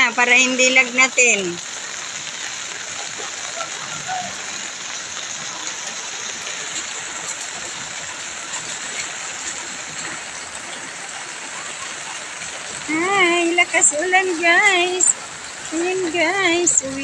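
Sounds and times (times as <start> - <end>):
heavy rain on an umbrella: 0.0 - 17.0.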